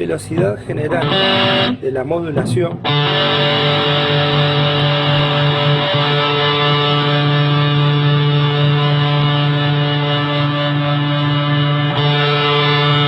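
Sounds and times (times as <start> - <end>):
fuzz electric guitar chord: 1.0 - 1.8, 2.8 - 13.0.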